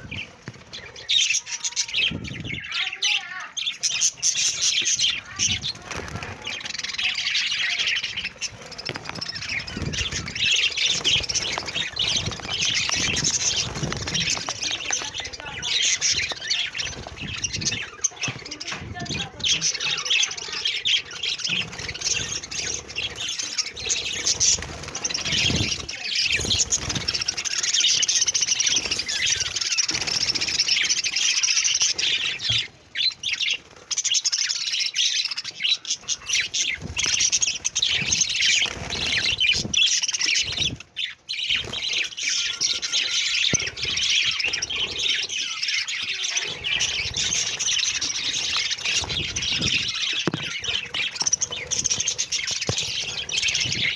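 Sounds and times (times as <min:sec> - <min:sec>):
budgerigars chattering: 0:00.0 - 0:53.9.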